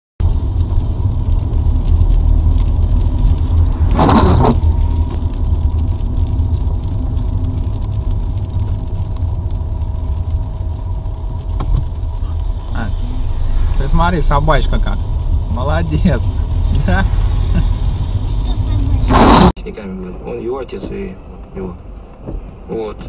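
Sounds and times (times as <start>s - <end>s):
car engine and tyre rumble: 0.2s - 23.0s.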